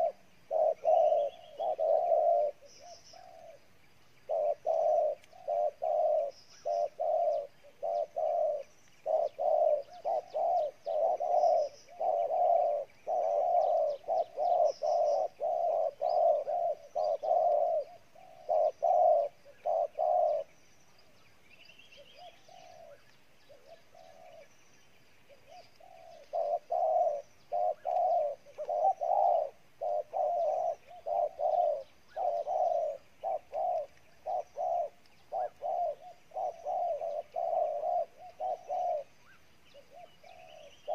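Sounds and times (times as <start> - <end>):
dove cooing rapidly: 0.0 - 20.6, 21.9 - 24.6, 25.2 - 40.9
small birds chirping: 0.0 - 40.9.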